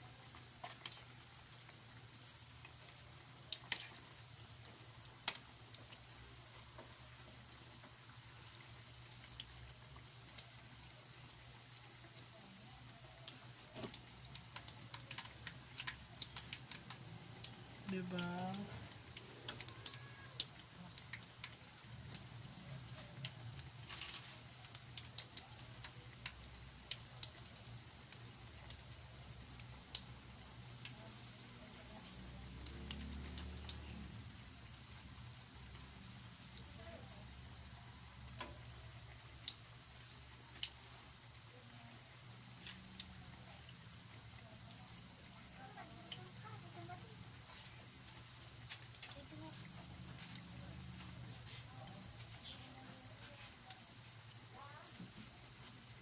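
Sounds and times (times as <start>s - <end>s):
fritters sizzling in oil: 0.0s - 56.0s.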